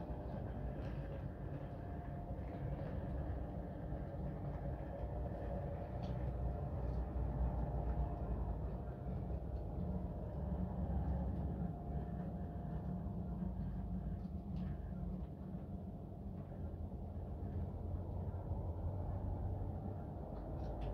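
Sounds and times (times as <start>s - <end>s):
model locomotive running on track: 0.0s - 20.9s.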